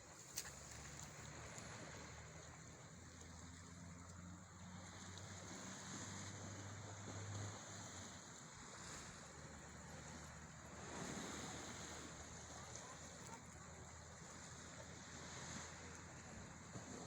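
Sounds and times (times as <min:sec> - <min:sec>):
sea water washing: 0:00.0 - 0:17.0.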